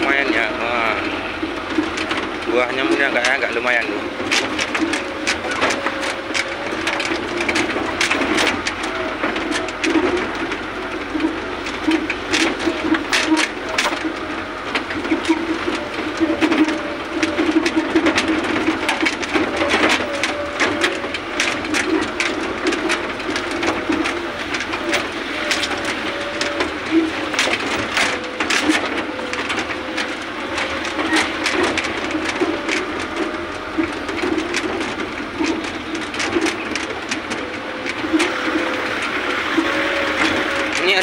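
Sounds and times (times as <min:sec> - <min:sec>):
vehicle engine droning: 0:00.0 - 0:41.0
vehicle rattles and knocks: 0:00.0 - 0:41.0.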